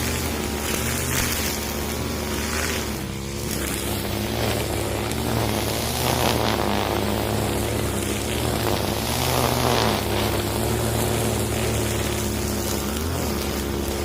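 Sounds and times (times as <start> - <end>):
brush cutter running at high speed: 0.0 - 14.0.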